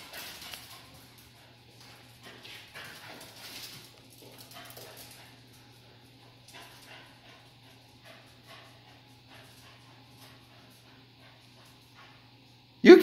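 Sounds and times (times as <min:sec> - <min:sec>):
dog paws on hard floor: 0:00.0 - 0:12.7
steady low hum: 0:00.0 - 0:13.0.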